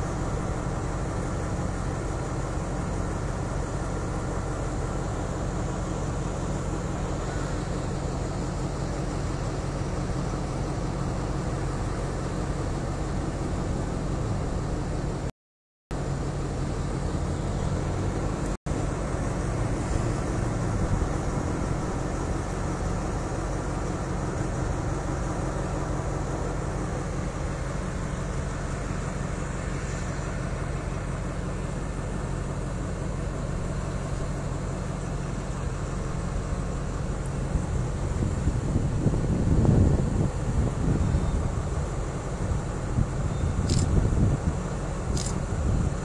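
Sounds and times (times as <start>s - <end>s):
diesel locomotive engine drone: 0.0s - 15.3s, 15.9s - 46.0s.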